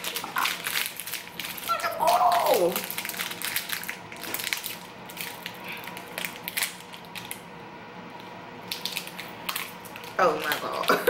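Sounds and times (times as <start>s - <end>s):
snack wrapper crinkling: 0.0s - 7.5s, 8.2s - 11.0s.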